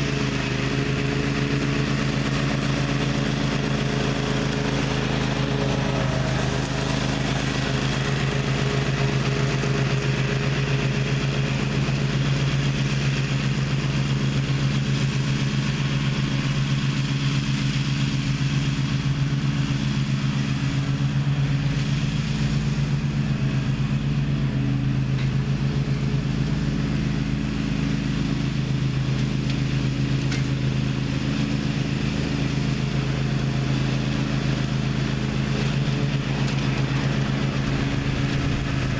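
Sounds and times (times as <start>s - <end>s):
lawn mower running under load: 0.0s - 38.9s
mower blades mulching pine straw: 0.0s - 38.9s.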